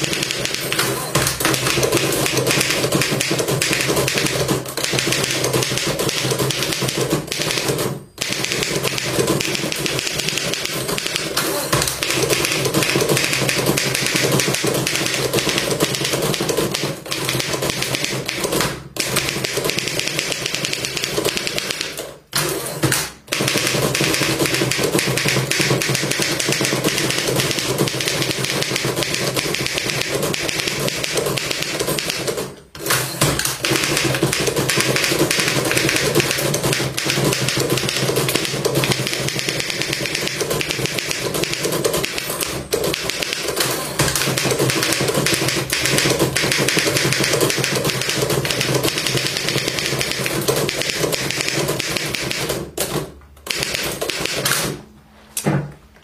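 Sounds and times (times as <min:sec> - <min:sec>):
typewriter typing: 0:00.0 - 0:54.8.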